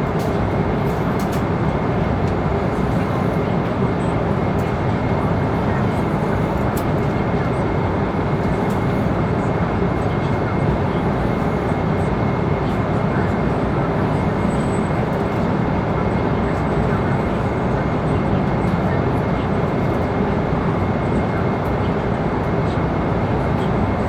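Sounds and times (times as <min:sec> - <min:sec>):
airliner engines and airflow rushing: 0:00.0 - 0:24.0.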